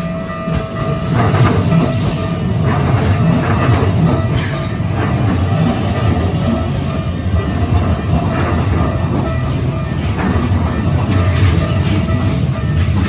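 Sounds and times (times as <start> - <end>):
crossing warning bell ringing: 0.0 - 13.0
high wheel squeal: 0.0 - 13.0
train wheels rumbling: 0.0 - 13.0.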